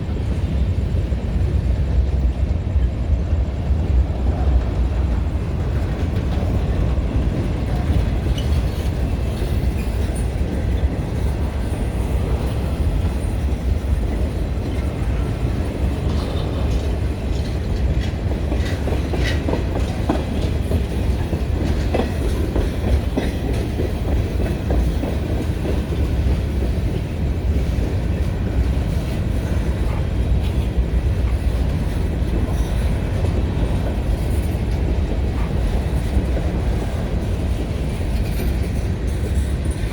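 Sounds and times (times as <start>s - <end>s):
freight train rumbling past: 0.0s - 39.9s
train wheels clicking: 0.0s - 39.9s.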